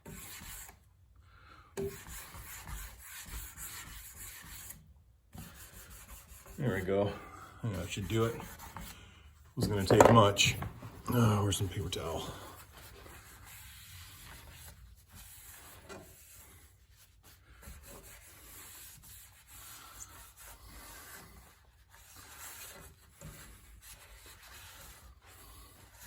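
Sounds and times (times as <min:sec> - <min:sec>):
hand wiping a surface: 0:01.9 - 0:26.0.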